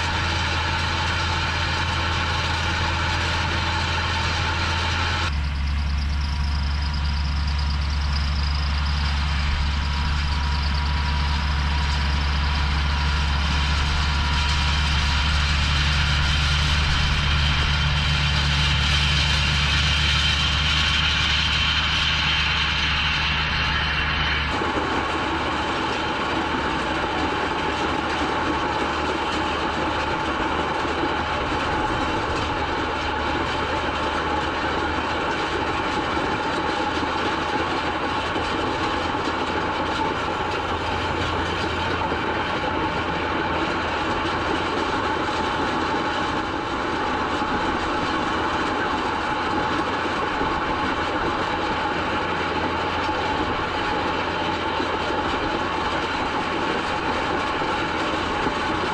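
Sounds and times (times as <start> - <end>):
rumble of field rollers: 0.0 - 58.9
tractor diesel engine running: 0.0 - 58.9.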